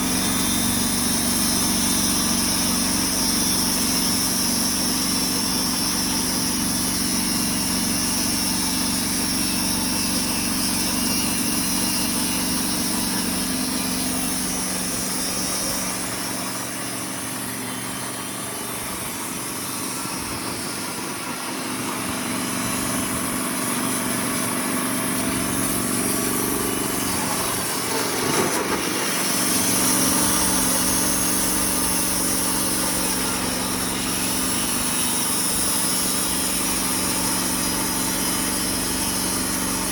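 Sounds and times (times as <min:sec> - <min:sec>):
saw blade cutting log: 0:00.0 - 0:39.9
sawmill engine running: 0:00.0 - 0:39.9.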